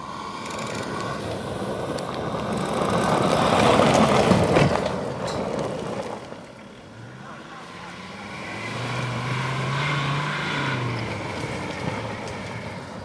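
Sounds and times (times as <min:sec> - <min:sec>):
car driving past on gravel: 0:00.2 - 0:13.0.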